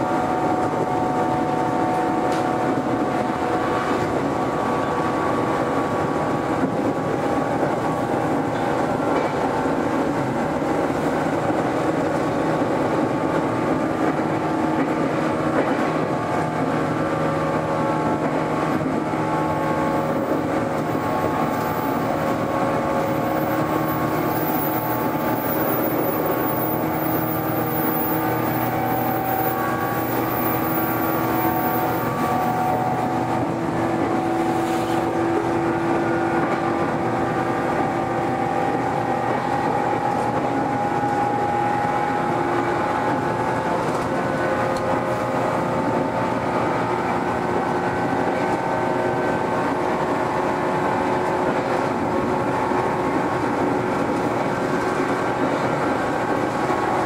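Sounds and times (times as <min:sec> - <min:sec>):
train traction motors humming: 0:00.0 - 0:57.0
wheels rumbling on rail: 0:00.0 - 0:57.0.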